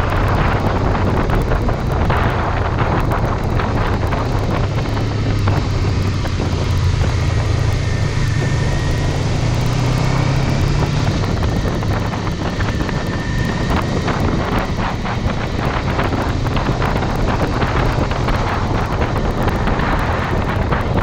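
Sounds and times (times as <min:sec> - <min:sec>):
motorcycle engine at road speed: 0:00.0 - 0:21.0
wind rushing over microphone: 0:00.0 - 0:21.0.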